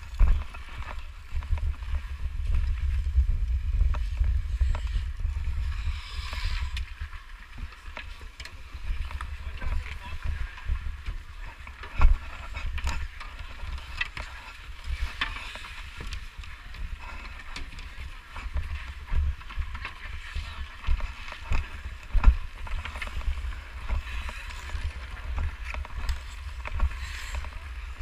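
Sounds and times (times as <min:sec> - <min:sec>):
skates scraping on ice: 0:00.0 - 0:28.0
wind buffeting microphone: 0:00.0 - 0:28.0.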